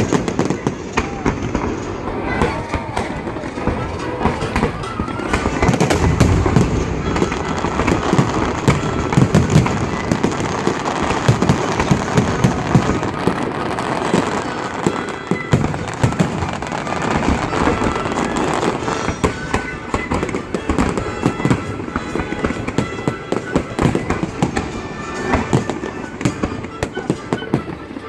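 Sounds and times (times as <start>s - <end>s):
fireworks booming and crackling: 0.0s - 28.0s.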